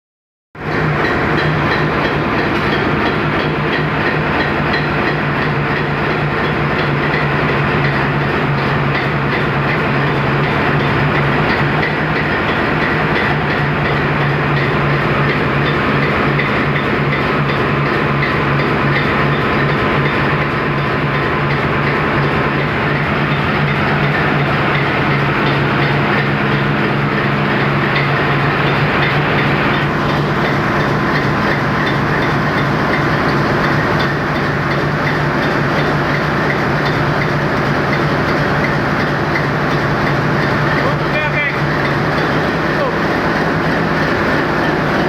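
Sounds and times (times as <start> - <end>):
diesel engine droning and clattering: 0.6 - 45.0.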